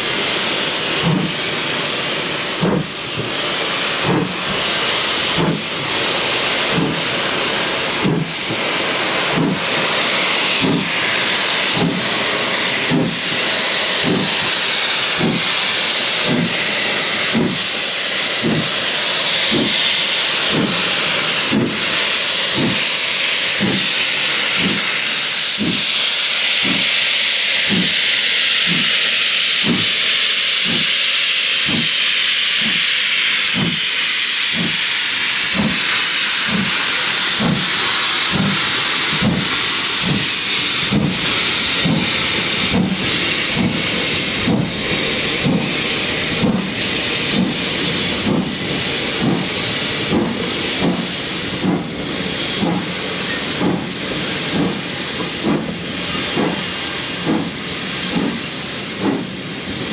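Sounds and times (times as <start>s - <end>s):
steam hissing: 0.0s - 59.9s
steam locomotive exhaust beats: 0.0s - 59.9s.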